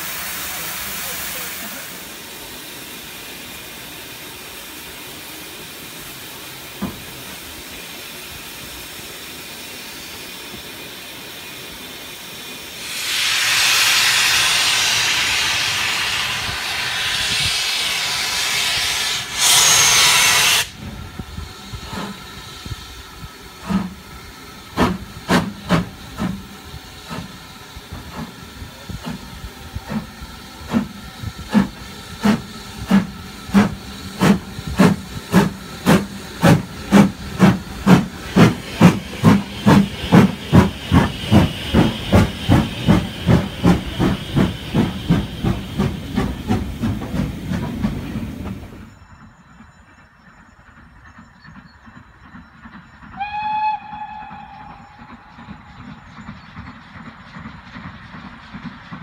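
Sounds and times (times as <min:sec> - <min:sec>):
rush of escaping steam: 0:00.0 - 0:49.0
steady steam hiss: 0:00.0 - 0:49.3, 0:50.1 - 0:59.0
steam locomotive chuffing: 0:00.0 - 0:59.0.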